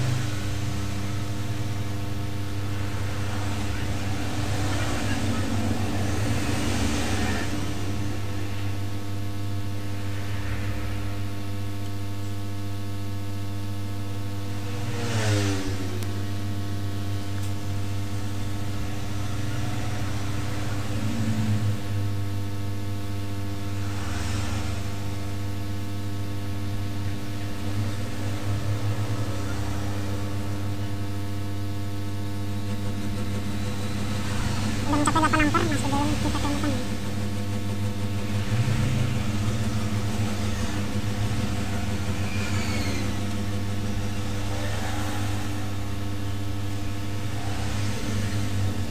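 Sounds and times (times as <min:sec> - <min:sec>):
machine hum: 0:00.0 - 0:48.9.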